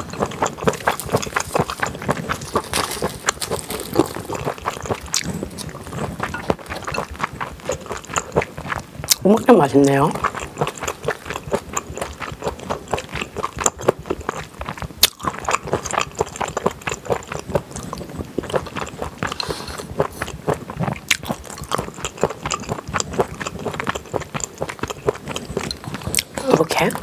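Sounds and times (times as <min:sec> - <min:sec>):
close-up chewing and biting: 0:00.0 - 0:27.0.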